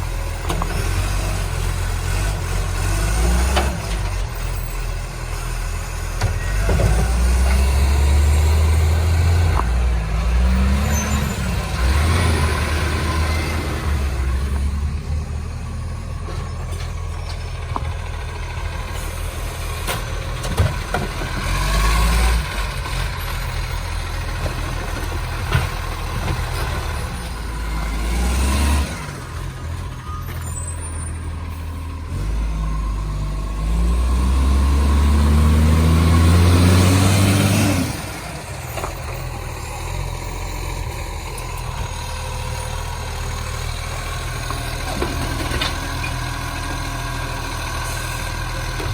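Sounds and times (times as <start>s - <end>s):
diesel truck engine revving: 0.0s - 48.9s.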